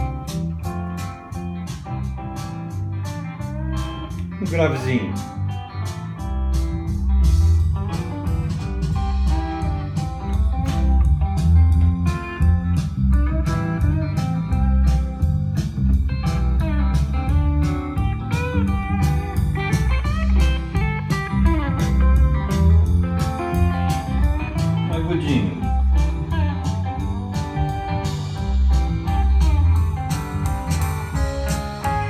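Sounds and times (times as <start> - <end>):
blues guitar music over loudspeakers: 0.0 - 32.0.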